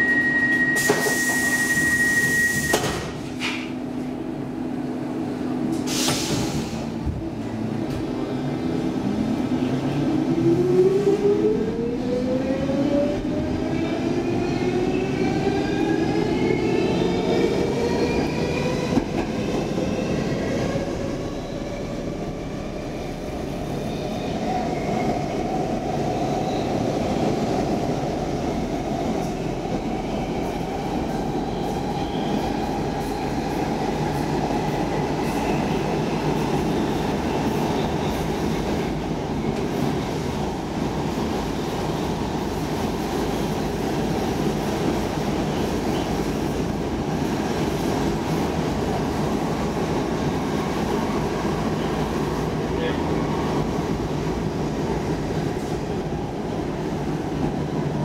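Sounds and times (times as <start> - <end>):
train rumbling in tunnel: 0.0 - 58.0.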